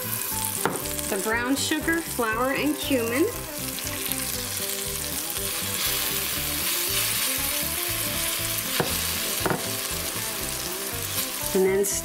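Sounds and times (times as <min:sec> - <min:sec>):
vegetables sizzling in fat: 0:00.0 - 0:12.0.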